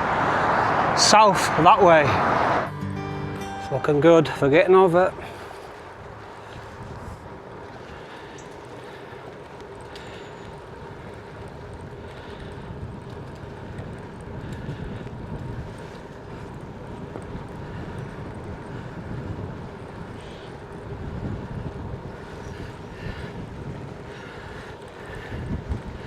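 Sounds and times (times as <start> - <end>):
bicycle tyre road noise: 0.0 - 2.7, 3.9 - 26.0
wind buffeting microphone: 4.6 - 26.0.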